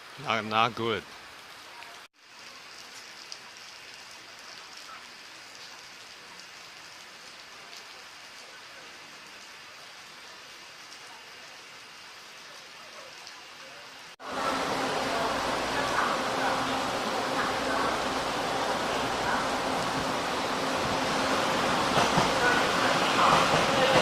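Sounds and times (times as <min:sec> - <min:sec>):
steady outdoor hiss: 0:00.0 - 0:24.0.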